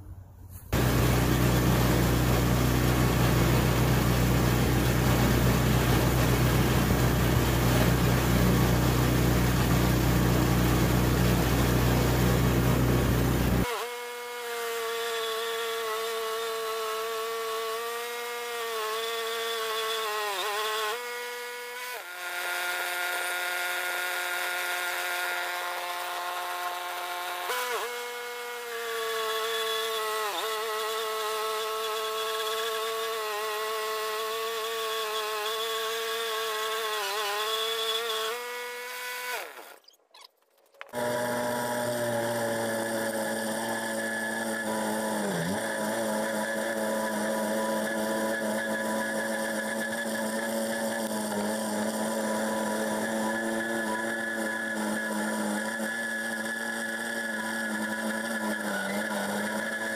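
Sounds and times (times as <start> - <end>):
bandsaw mill cutting log: 0.7 - 39.9, 40.8 - 59.9.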